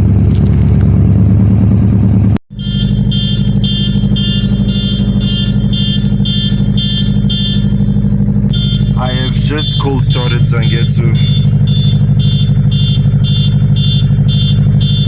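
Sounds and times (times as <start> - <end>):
car engine rumbling: 0.0 - 15.0
car alarm beeping: 2.5 - 15.0.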